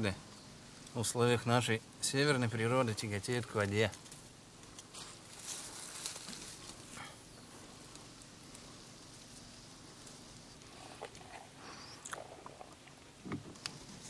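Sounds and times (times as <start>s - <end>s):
shrubs rustling: 0.0s - 14.0s
light ticks of berries picked: 0.2s - 14.0s.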